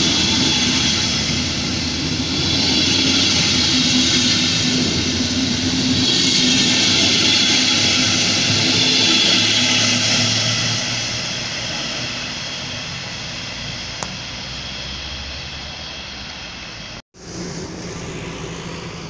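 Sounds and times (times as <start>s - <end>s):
train rumble pulling away: 0.0s - 19.0s.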